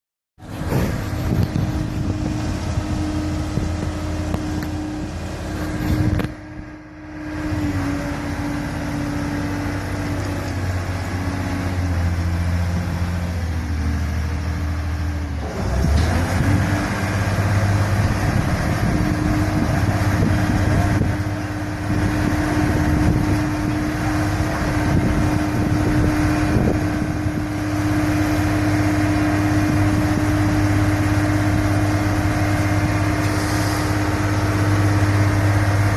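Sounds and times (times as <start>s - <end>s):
boat engine humming: 0.4s - 35.9s.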